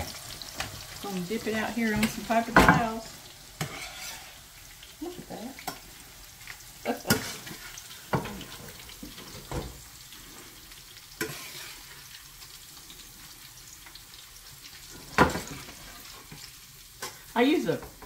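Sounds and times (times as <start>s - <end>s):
squash sizzling in hot grease: 0.0s - 18.0s.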